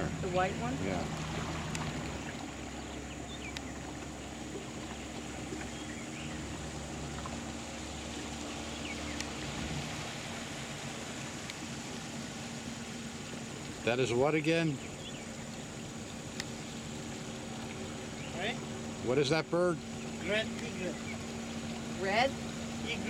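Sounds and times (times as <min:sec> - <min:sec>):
outboard motor idling: 0:00.0 - 0:23.0.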